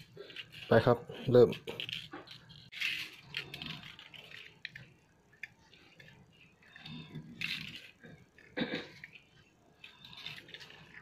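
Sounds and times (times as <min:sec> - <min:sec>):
wire clicking and scratching on metal: 0:00.0 - 0:11.0.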